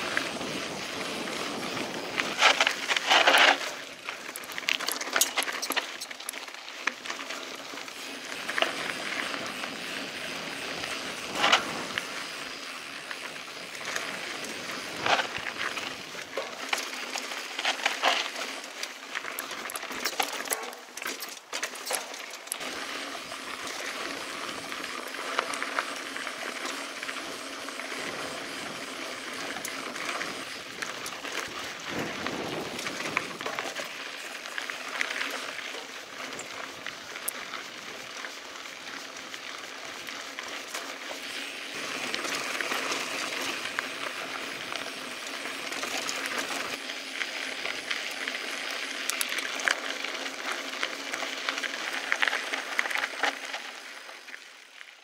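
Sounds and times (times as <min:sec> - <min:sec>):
bike rattling over bumps: 0:00.0 - 0:54.9
bike tyres on dirt trail: 0:00.0 - 0:55.0.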